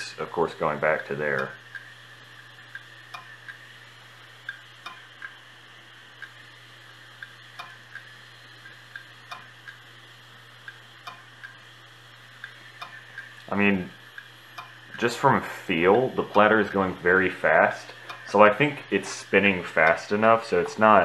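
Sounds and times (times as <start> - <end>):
hard drive motor hum and whine: 0.0 - 21.0.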